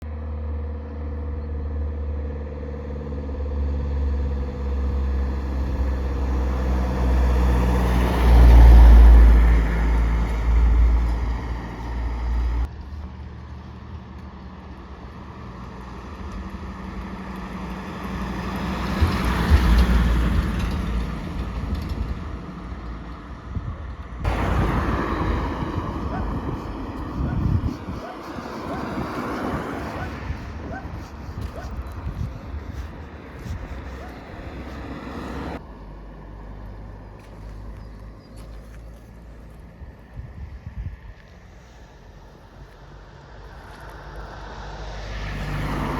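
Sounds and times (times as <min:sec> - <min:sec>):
vehicles passing on road: 0:00.0 - 0:45.9.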